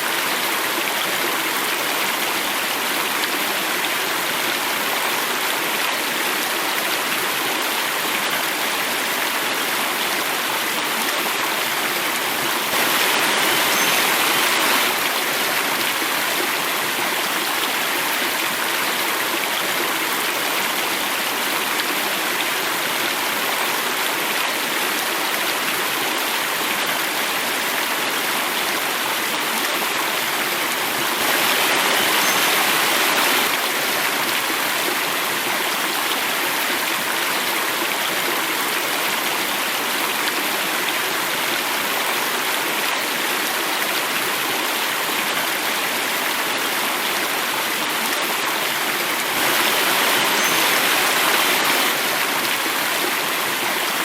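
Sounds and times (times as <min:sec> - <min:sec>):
stream water over a cascade: 0:00.0 - 0:54.0.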